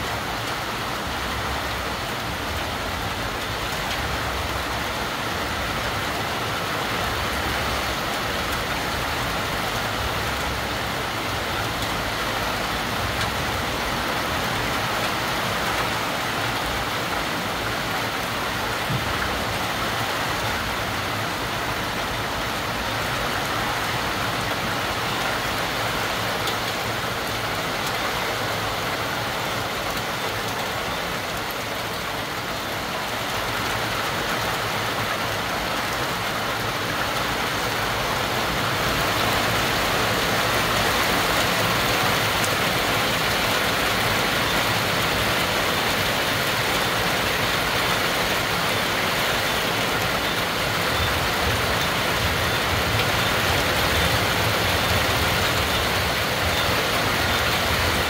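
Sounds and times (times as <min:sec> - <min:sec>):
heavy rain on trees and rooftops: 0:00.0 - 0:58.0.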